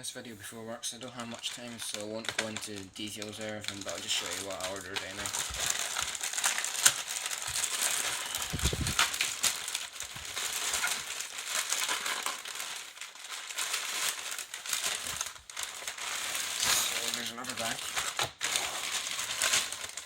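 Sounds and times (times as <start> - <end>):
plastic bags crinkling: 0.9 - 20.0.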